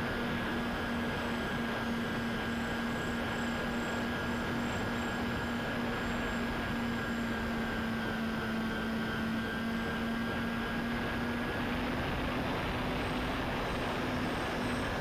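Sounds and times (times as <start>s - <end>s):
model plane motors and propellers: 0.0s - 15.0s.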